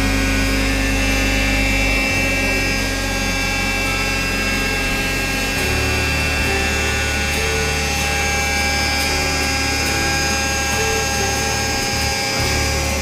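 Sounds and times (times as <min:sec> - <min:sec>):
hydraulic pump motor humming: 0:00.0 - 0:13.0.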